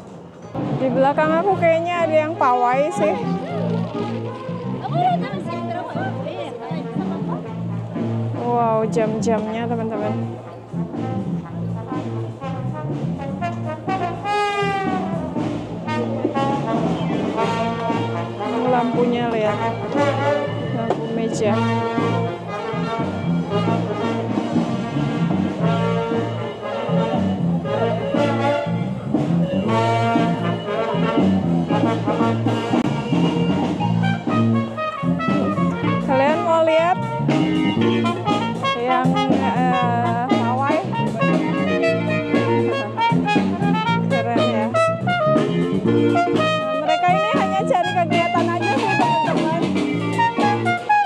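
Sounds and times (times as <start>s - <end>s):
brass band playing: 0.6s - 51.0s.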